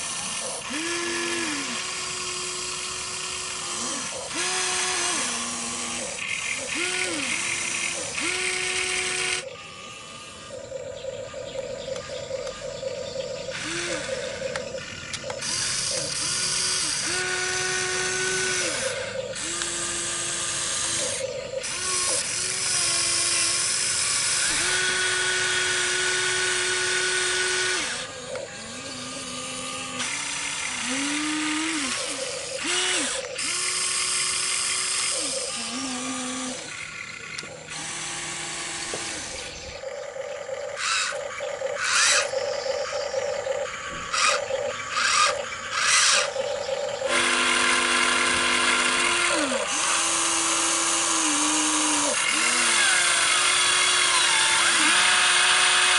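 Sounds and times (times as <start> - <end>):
toy excavator motors whining: 0.0 - 55.9.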